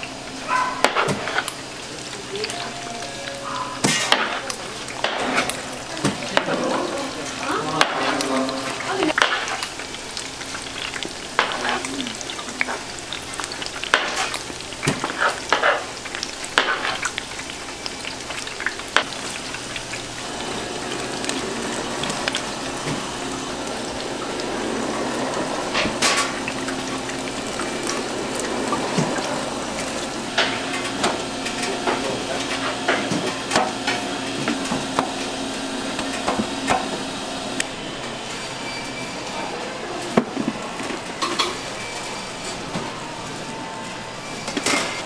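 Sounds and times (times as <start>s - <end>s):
fish cakes sizzling in oil: 0.0s - 39.4s
faint machine hum: 0.0s - 45.0s.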